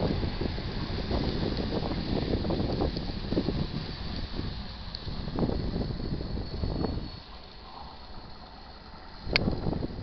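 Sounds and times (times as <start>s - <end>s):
freight train rumbling: 0.0s - 10.0s.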